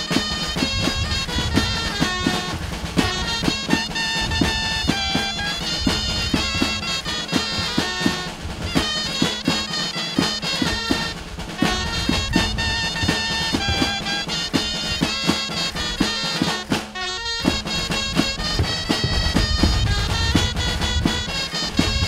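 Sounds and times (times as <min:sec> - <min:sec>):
reedy shawm melody: 0:00.0 - 0:22.0
steady drum beat: 0:00.0 - 0:22.0.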